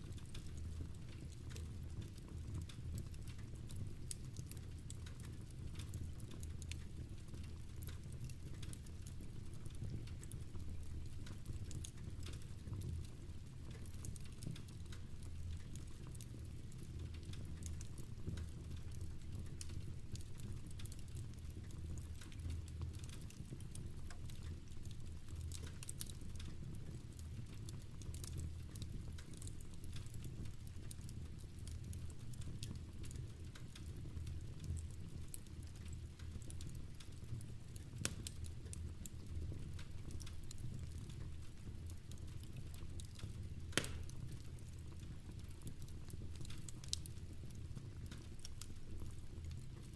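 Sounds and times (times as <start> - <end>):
fire crackling and popping: 0.0 - 49.9
rain pattering: 0.0 - 49.9.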